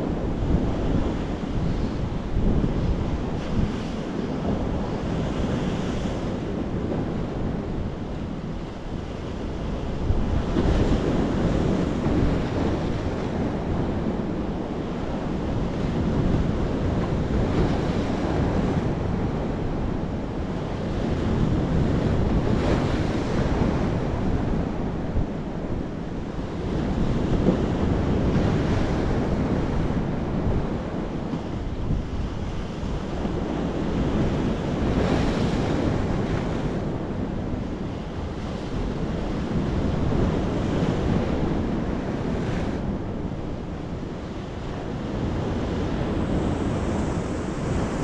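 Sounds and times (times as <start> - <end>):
sea waves breaking on shore: 0.0 - 48.0
wind noise on microphone: 0.0 - 48.0.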